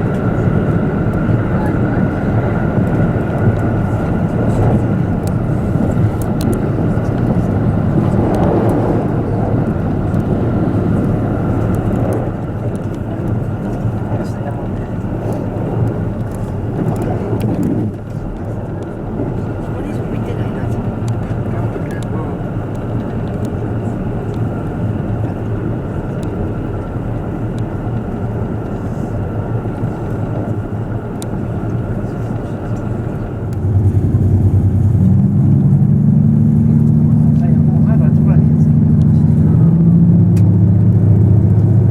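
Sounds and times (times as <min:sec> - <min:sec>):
train engine and wheels rumbling: 0:00.0 - 0:41.9.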